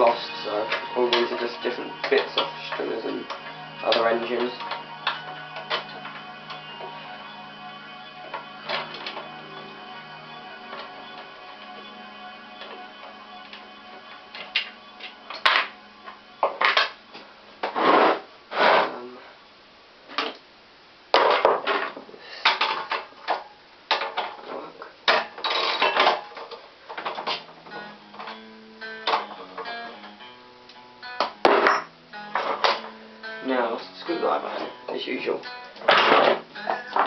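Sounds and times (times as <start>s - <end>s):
background guitar music: 0.0s - 18.3s, 22.6s - 37.0s.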